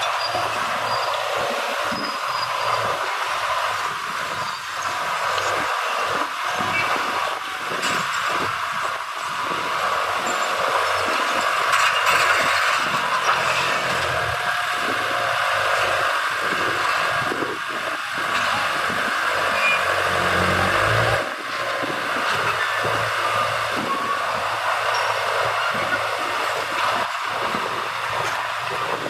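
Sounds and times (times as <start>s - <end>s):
heavy diesel machinery engine hum: 0.0s - 29.0s.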